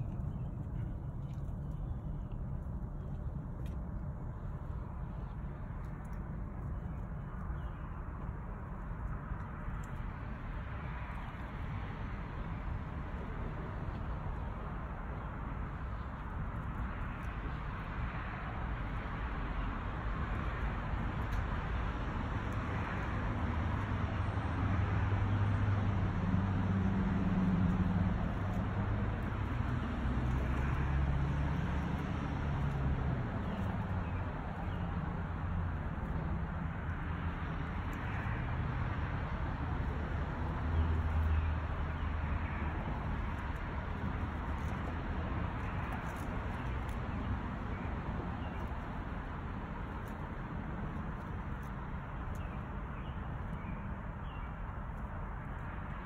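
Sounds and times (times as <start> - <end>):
motor vehicles humming: 0.0 - 56.0
outdoor background noise: 0.0 - 56.0.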